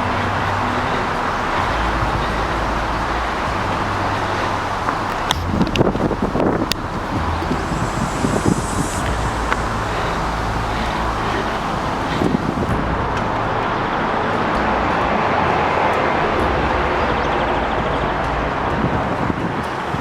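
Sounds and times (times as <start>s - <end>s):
distant freeway traffic: 0.0s - 20.0s.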